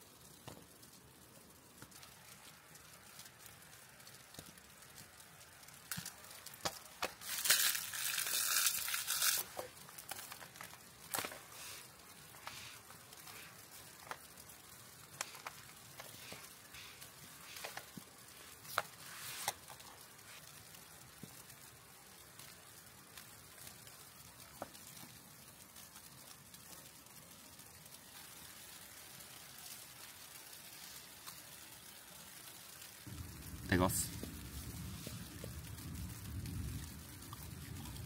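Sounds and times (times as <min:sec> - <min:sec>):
plastic wrapper crinkling and tearing: 0:00.2 - 0:33.2.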